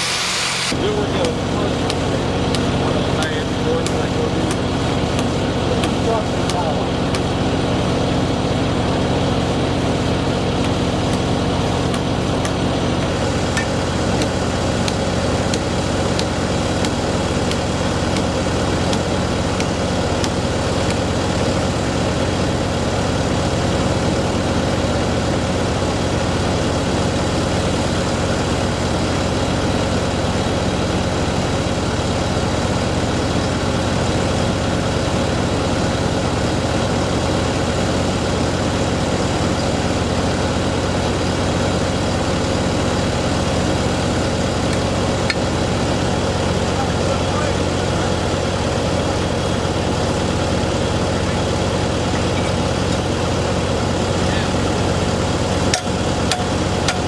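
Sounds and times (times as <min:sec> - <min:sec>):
heavy engine idling: 0:00.0 - 0:57.0.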